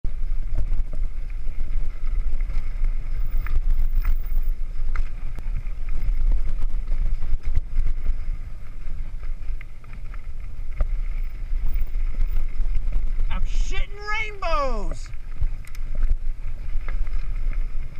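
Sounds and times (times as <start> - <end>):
bike clicks and rattles: 0.1 - 13.3, 15.1 - 17.9.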